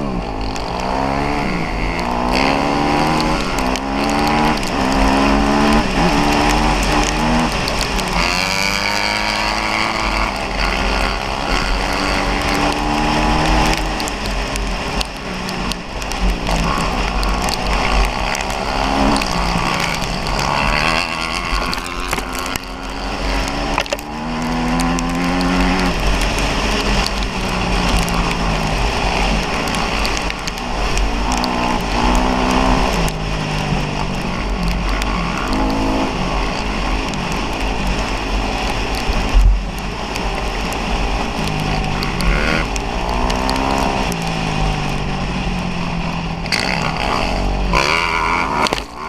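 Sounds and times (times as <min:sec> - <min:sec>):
dirt bike engine revving: 0:00.0 - 0:49.0
wind rumble on microphone: 0:00.0 - 0:49.0.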